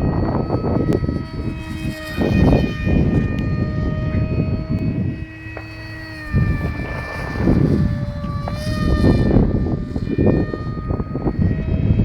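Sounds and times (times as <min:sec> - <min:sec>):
electric motor and propeller whining: 0:00.0 - 0:12.0
wind noise on microphone: 0:00.0 - 0:12.0.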